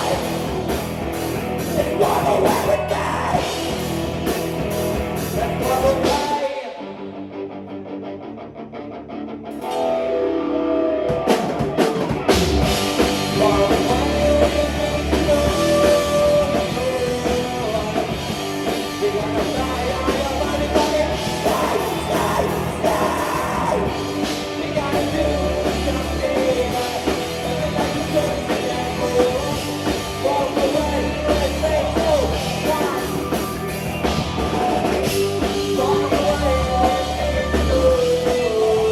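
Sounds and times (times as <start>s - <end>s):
lead singer singing: 0.0s - 0.9s, 1.5s - 4.0s, 5.2s - 7.1s, 10.8s - 38.9s
live rock band playing: 0.0s - 7.8s, 9.4s - 38.9s.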